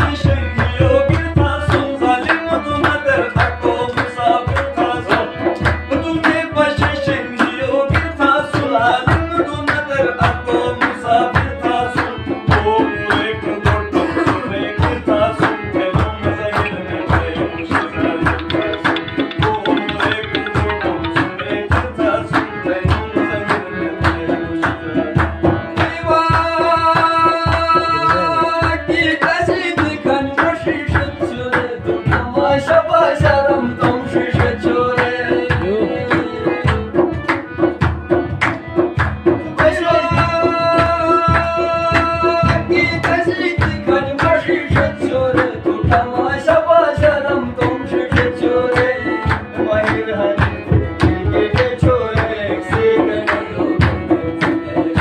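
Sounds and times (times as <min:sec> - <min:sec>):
person singing: 0:00.0 - 0:37.1, 0:39.5 - 0:55.0
hand drum beating fast rhythm: 0:00.0 - 0:55.0
harmonium drone and chords: 0:00.0 - 0:55.0
handclaps: 0:00.5 - 0:32.4, 0:34.3 - 0:46.0, 0:47.0 - 0:55.0.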